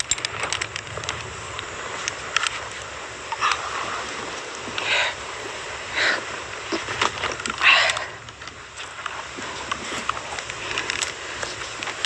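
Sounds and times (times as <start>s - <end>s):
wind blowing over microphone: 0.0s - 12.0s.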